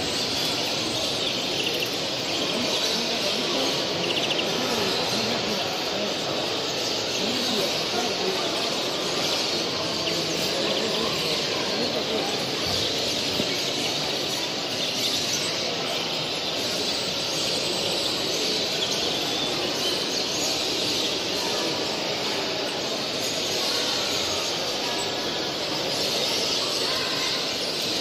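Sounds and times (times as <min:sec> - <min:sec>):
finches chirping and singing: 0:00.0 - 0:28.0
murmur of voices: 0:00.0 - 0:28.0.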